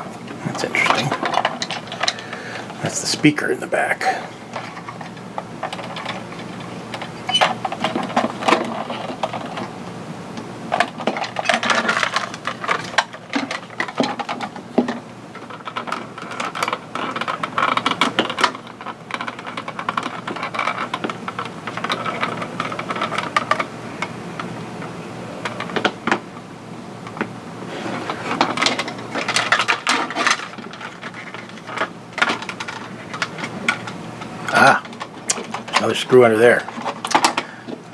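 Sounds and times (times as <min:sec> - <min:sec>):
plastic parts clicking and rattling: 0:00.5 - 0:03.0, 0:04.5 - 0:09.8, 0:10.4 - 0:24.1, 0:27.0 - 0:37.9.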